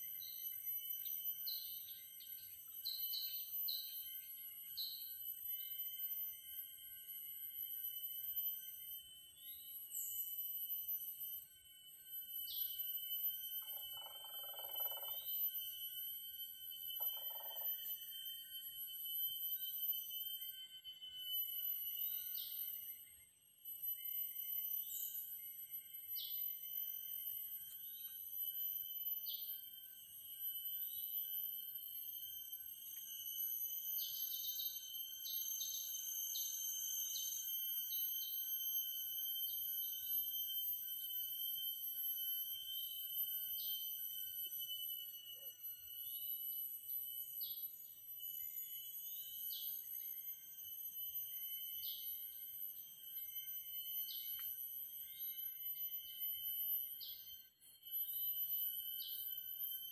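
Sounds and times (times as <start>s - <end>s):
short insect chirps: 0.0s - 59.9s.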